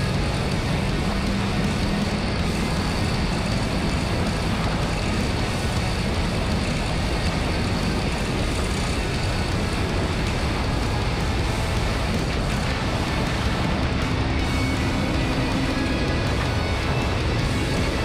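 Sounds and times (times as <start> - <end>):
motorcycle engine at speed: 0.0 - 18.0.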